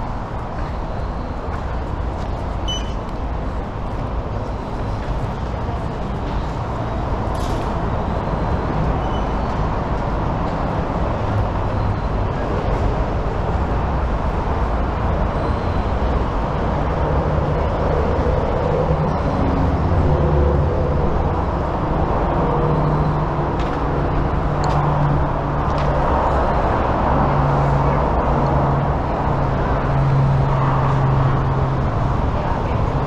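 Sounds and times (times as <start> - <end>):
heavy vehicle engine hum: 0.0 - 33.0
road traffic rumble: 0.0 - 33.0.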